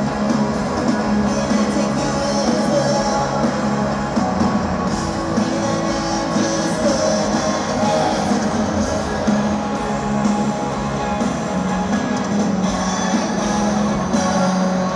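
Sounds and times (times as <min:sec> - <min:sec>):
live rock band with distorted guitars: 0:00.0 - 0:14.9.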